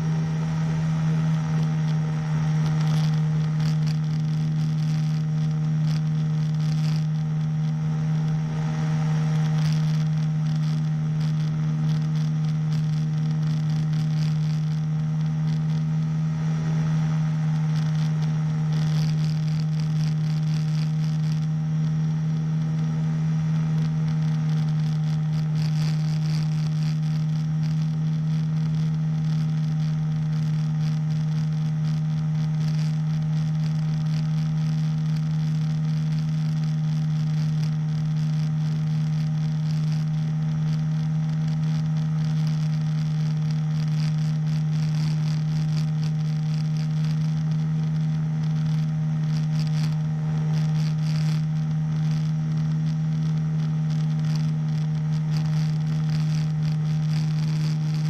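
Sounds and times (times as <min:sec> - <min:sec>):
glider engine running: 0:00.0 - 0:58.0.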